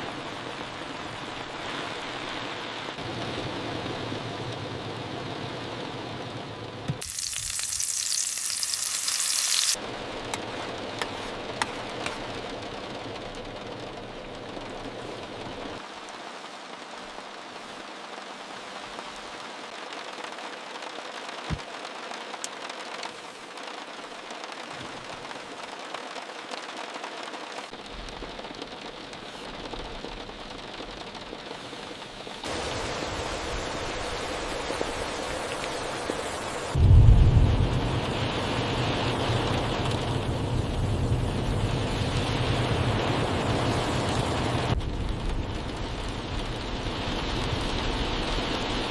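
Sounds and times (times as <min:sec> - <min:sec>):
rain drops ticking: 0:00.0 - 0:48.9
heavy rain hissing: 0:07.0 - 0:48.9.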